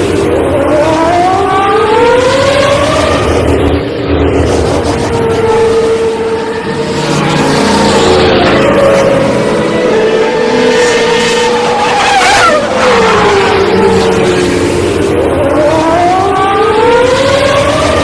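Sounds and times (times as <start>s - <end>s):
race car engines at high revs: 0.0s - 18.0s
race car passing by: 0.1s - 18.0s.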